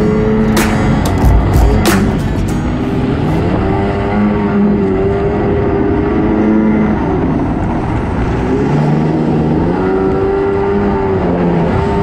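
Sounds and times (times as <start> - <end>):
jet ski engine running: 0.0 - 12.0
rushing wind: 0.0 - 12.0.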